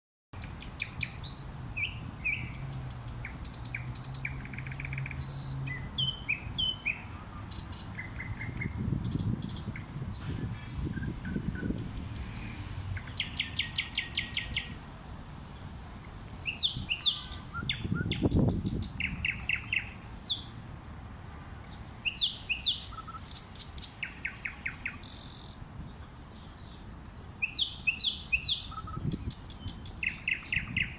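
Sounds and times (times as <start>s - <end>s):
nightingales singing: 0.4s - 14.9s, 15.7s - 20.5s, 21.4s - 30.9s
low city rumble: 0.4s - 30.9s.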